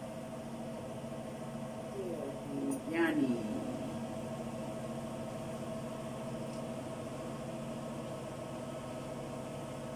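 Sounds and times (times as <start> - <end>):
steady mechanical hum: 0.0 - 9.9.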